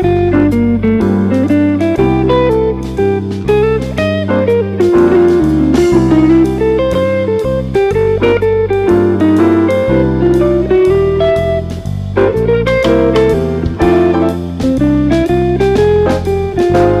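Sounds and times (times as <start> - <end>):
guitar-led background music: 0.0 - 17.0.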